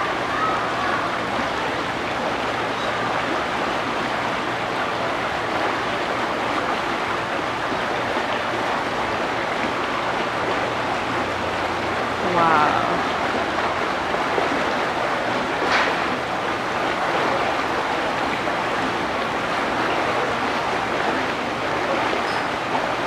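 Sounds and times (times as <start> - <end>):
water splashing over rocks: 0.0 - 23.0.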